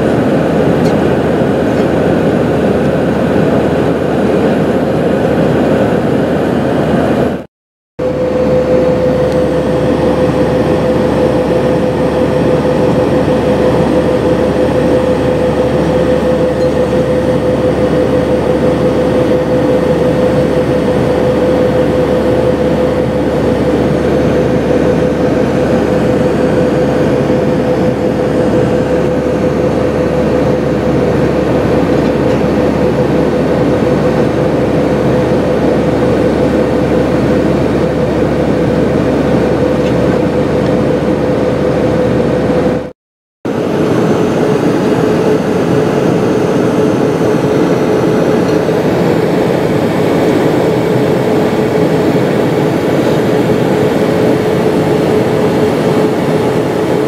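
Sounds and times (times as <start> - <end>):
engine and airflow roar: 0.0 - 57.0
mid-pitched hum: 0.0 - 57.0.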